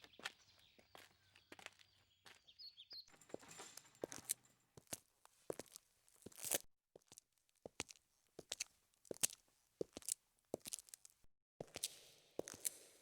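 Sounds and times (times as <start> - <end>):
footsteps crunching: 0.0 - 2.5, 3.2 - 13.0.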